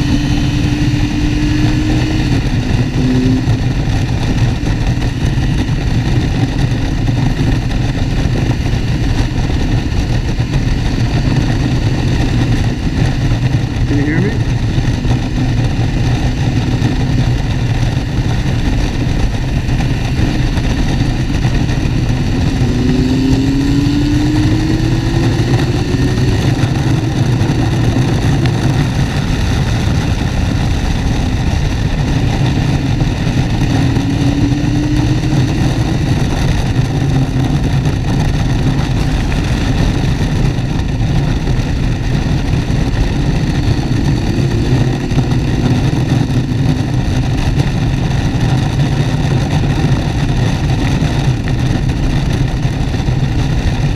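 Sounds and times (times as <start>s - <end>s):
motorcycle engine accelerating: 0.0s - 53.9s
wind noise: 0.0s - 53.9s.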